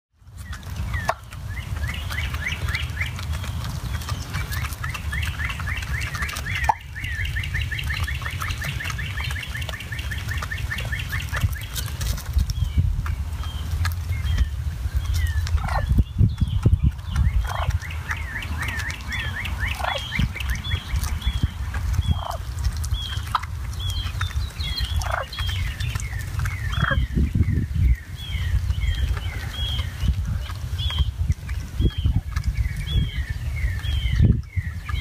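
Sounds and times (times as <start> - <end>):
steady low rumble: 0.2 - 35.0
turkeys clucking and calling: 0.3 - 35.0.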